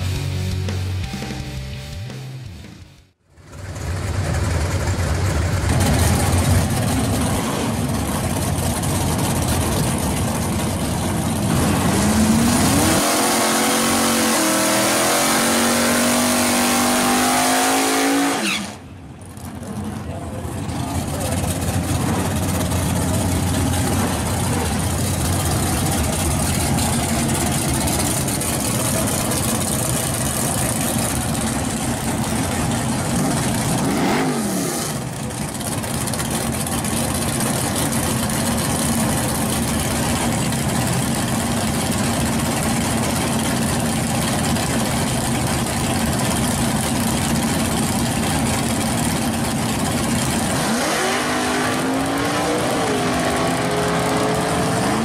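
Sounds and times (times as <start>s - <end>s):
car engine idling: 2.9s - 14.8s, 18.8s - 55.0s
car engine rumbling: 3.2s - 55.0s.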